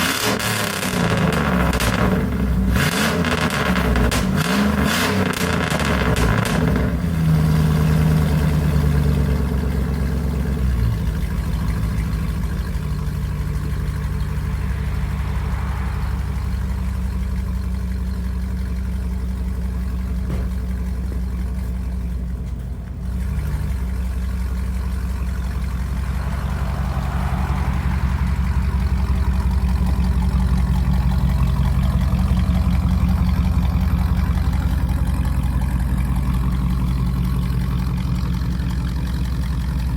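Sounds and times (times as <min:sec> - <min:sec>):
straight-piped engine idling: 0:06.9 - 0:39.9.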